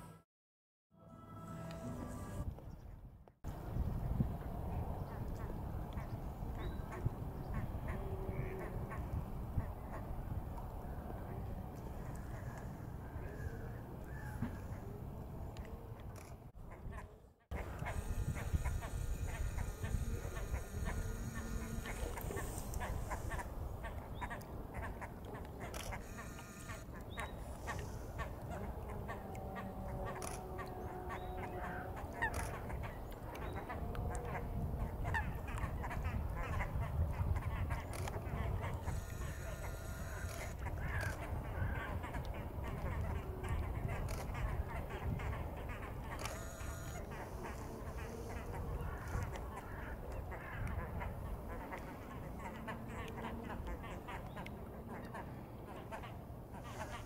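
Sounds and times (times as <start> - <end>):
waterbirds calling: 4.9 - 57.0.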